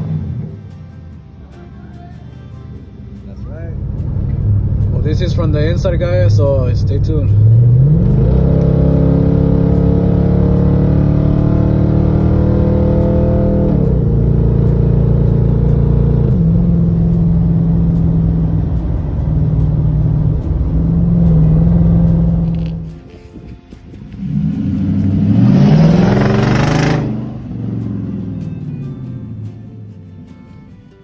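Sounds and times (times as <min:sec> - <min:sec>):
pickup exhaust drone: 0:00.0 - 0:01.2, 0:02.7 - 0:30.7.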